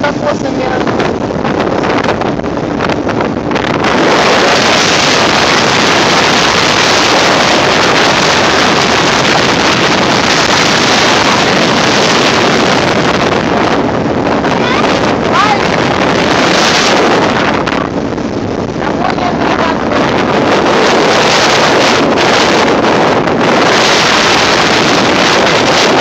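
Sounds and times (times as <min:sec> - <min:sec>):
boat motor: 0:00.0 - 0:26.0
hull running through water: 0:00.0 - 0:26.0
wind rushing over microphone: 0:00.0 - 0:26.0.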